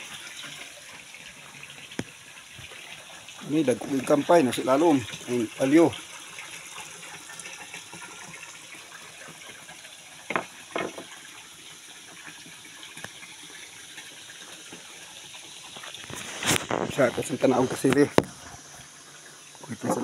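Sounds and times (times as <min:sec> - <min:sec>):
hose water splashing into tank: 0:00.0 - 0:20.0.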